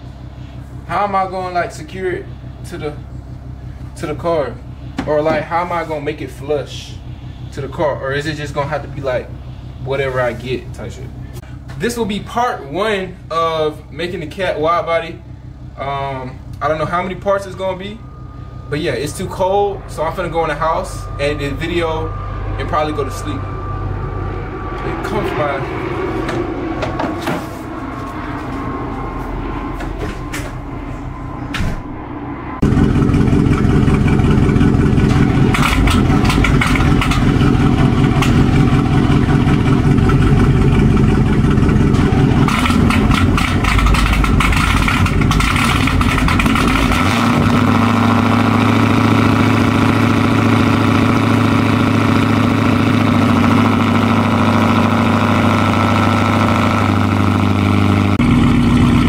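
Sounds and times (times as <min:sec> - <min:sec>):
car engine starting and idling: 0:00.0 - 0:59.0.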